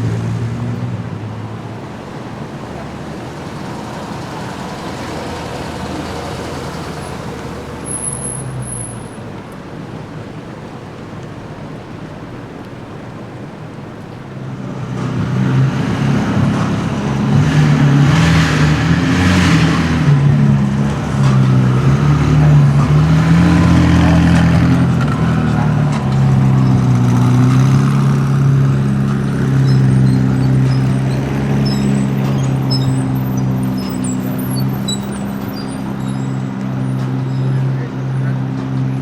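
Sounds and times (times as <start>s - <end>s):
sports car engine revving: 0.0s - 9.2s, 14.9s - 39.0s.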